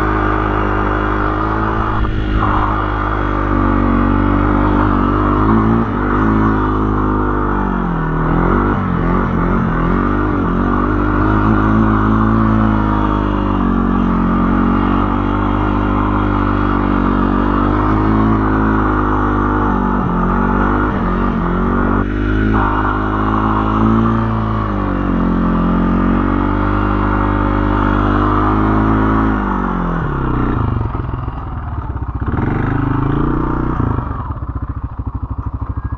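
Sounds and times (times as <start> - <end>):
vehicle engine revving and idling: 0.0 - 35.9.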